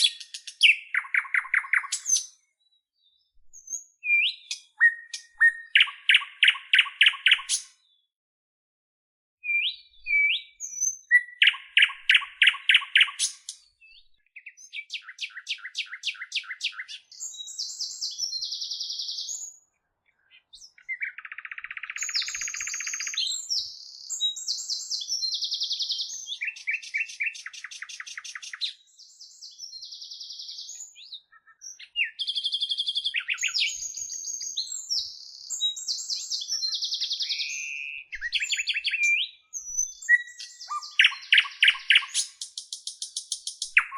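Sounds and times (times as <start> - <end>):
bird song with trills and whistles: 0.0 - 8.2, 9.4 - 43.9.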